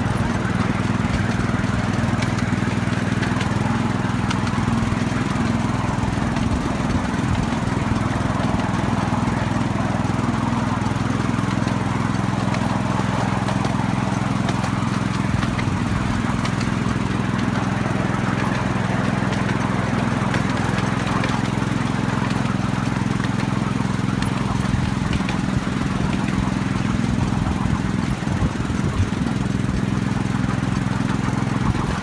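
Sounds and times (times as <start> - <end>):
miniature locomotive engine running: 0.0 - 32.0.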